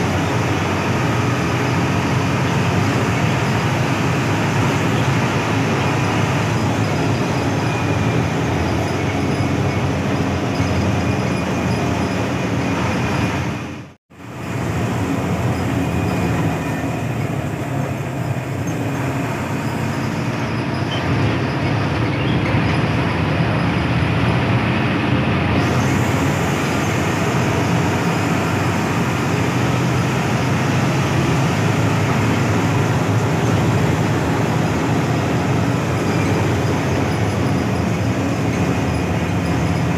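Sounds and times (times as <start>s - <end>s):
bus engine drone: 0.0s - 39.9s
road rumble: 0.0s - 39.9s.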